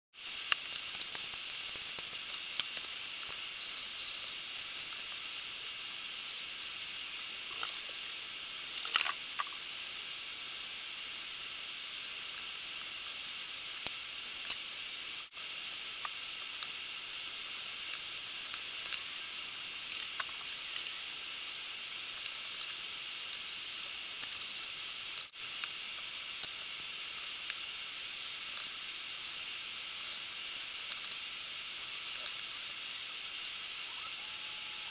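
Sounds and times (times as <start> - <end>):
high-pitched recording hiss: 0.2 - 34.9
faint thin whine: 0.3 - 34.9.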